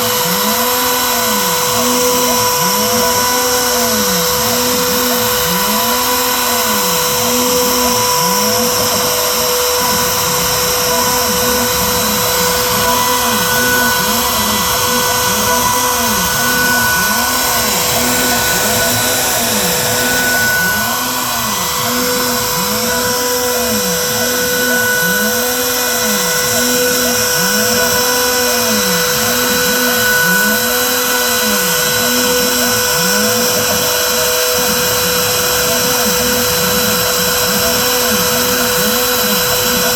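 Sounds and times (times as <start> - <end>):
motors sweeping in pitch: 0.0 - 39.9
router spindle whine: 0.0 - 39.9.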